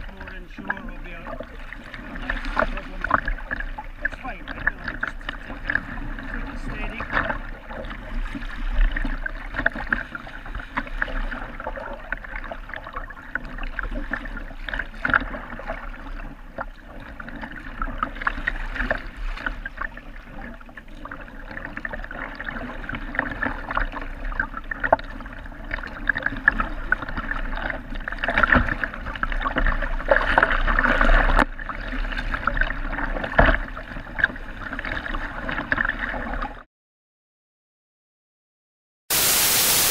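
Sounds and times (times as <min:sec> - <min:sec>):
water splashing against kayak hull: 0:00.0 - 0:36.7.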